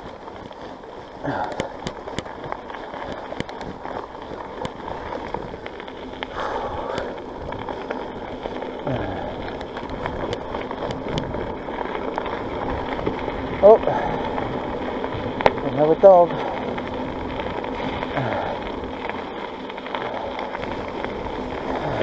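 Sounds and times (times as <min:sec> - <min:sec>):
bike tyre and riding noise: 0:00.0 - 0:22.0.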